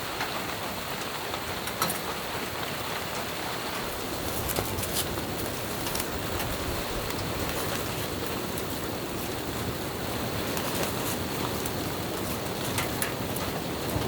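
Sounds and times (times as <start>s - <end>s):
rain pattering on a tent: 0.0s - 14.0s.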